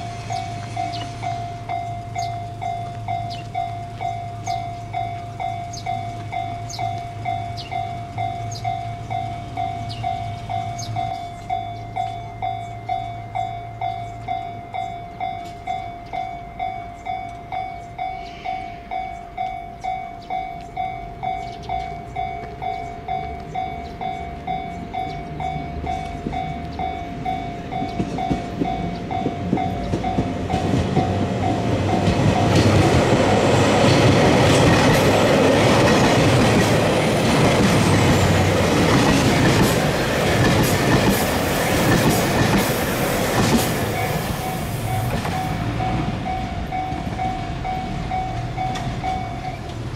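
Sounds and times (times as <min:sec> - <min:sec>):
train rumble and wheel clatter: 0:00.0 - 0:49.9.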